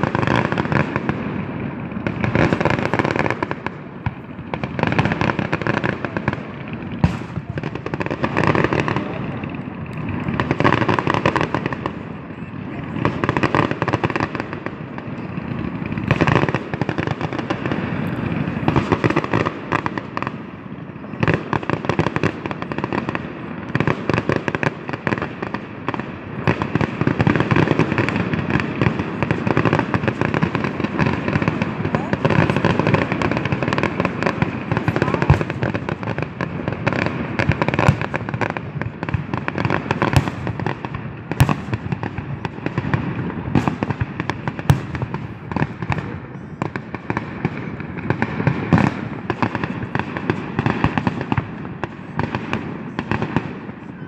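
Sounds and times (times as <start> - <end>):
firework bangs: 0.0 - 54.0
fireworks crackling: 0.0 - 54.0.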